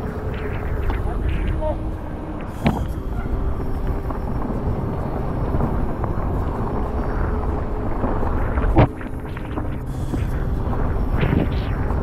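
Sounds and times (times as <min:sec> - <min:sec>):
bike tyres rumbling on dirt: 0:00.0 - 0:12.0
wind buffeting microphone: 0:00.0 - 0:12.0.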